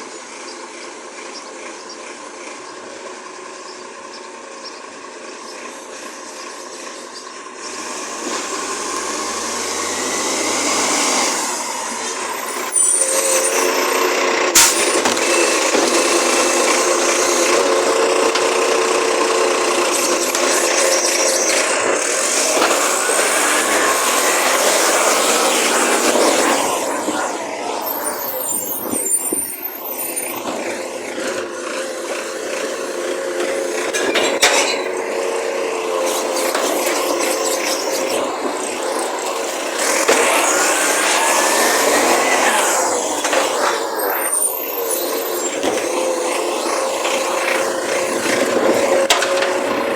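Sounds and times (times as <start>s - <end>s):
truck engine and hydraulics: 0.0s - 49.9s.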